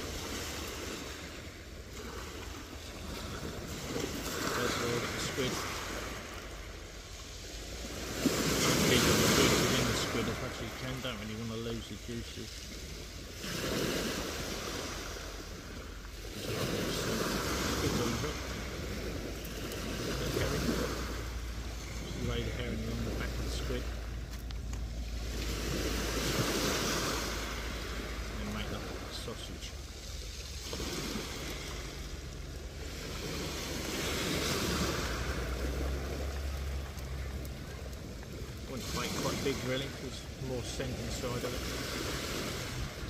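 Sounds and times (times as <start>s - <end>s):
small waves breaking on shingle: 0.0s - 43.0s.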